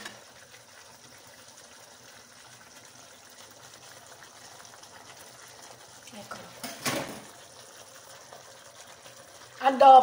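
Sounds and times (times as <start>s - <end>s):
sauce simmering in a pan: 0.0s - 10.0s.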